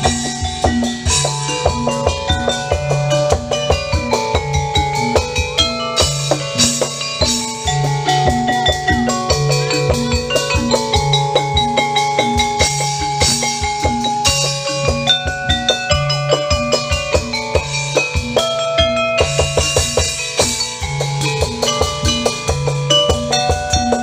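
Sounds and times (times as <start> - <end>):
instrumental melody: 0.0 - 24.0
steady drum beat: 0.0 - 24.0.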